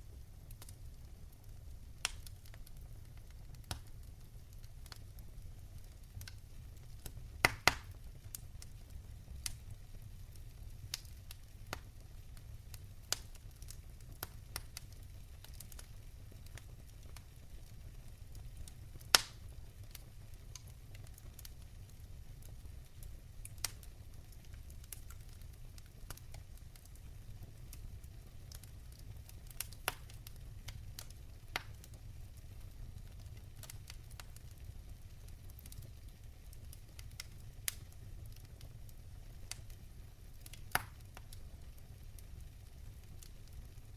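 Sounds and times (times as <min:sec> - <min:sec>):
low rumble of flames: 0:00.0 - 0:43.9
wood fire crackling and popping: 0:00.0 - 0:43.9.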